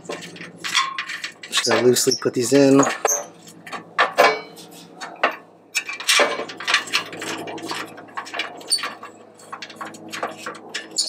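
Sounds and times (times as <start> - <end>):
metal bolts clinking and scraping: 0.0 - 11.0.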